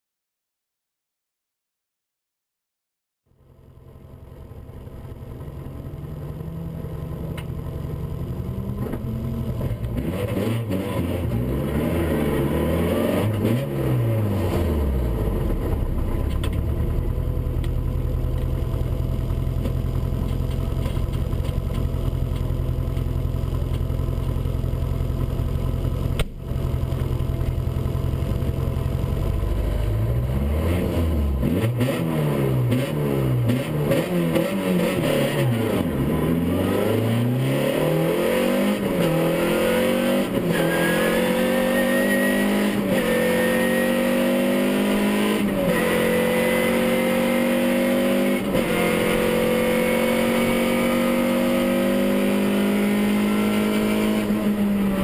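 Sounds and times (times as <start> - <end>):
rally car engine revving: 4.6 - 55.0.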